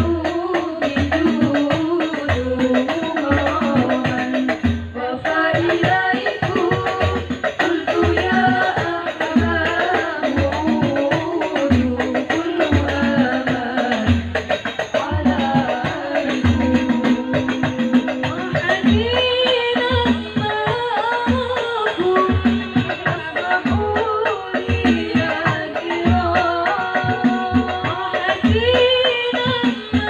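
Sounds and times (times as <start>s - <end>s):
frame drums: 0.0s - 30.0s
girls singing together: 0.0s - 30.0s.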